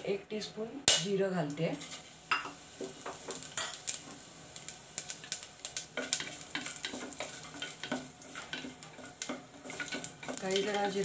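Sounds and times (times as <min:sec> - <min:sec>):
ghee sizzling: 0:00.0 - 0:11.0.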